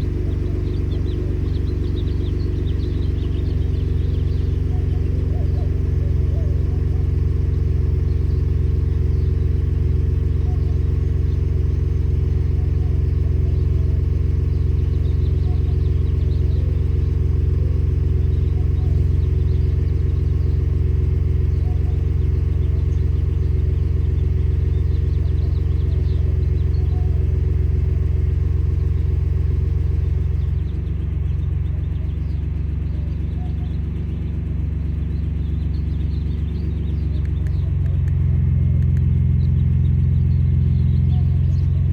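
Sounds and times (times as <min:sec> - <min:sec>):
truck engine idling: 0:00.0 - 0:41.9.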